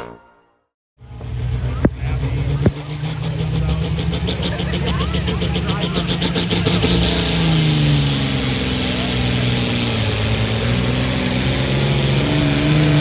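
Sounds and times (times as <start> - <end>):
diesel engine under load: 1.0 - 13.0.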